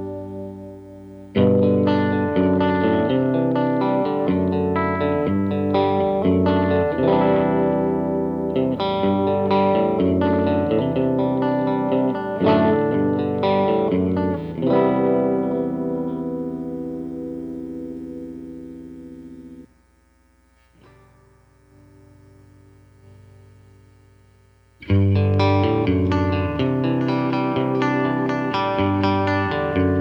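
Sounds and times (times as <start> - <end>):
electric guitar notes and chords: 0.0 - 19.9, 20.6 - 24.1, 24.8 - 30.0.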